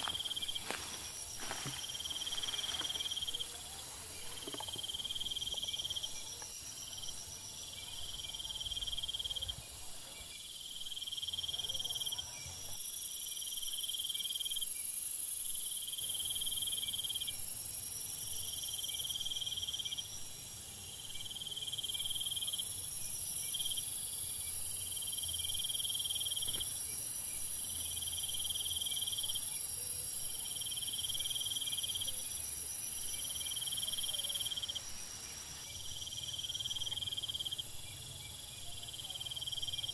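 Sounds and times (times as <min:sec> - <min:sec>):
insect trill: 0:00.0 - 0:39.9
insects buzzing: 0:00.0 - 0:39.9.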